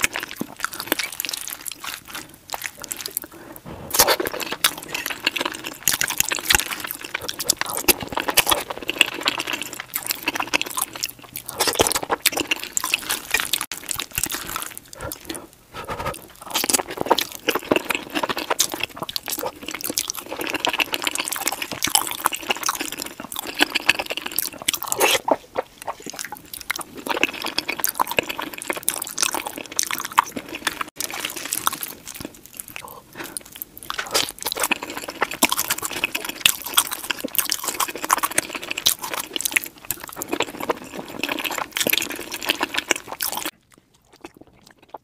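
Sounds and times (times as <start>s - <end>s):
soft food crunches: 0.0s - 15.5s, 16.2s - 45.0s
wet sticky chewing: 0.0s - 45.0s.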